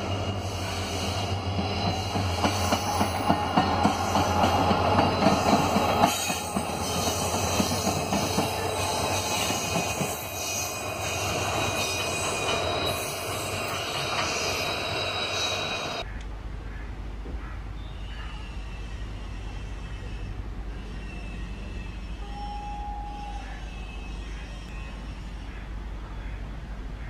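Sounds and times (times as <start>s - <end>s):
diesel locomotive engines droning: 0.0s - 27.0s.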